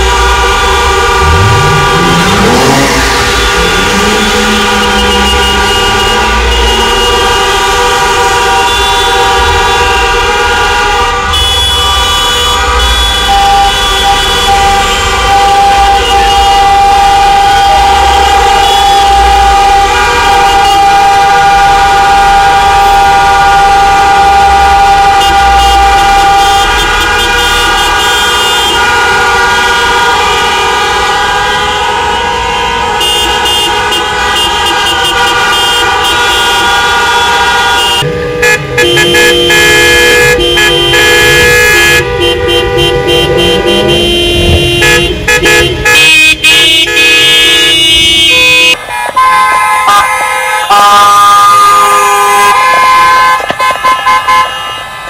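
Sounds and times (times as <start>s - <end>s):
car horns honking: 0.0s - 55.0s.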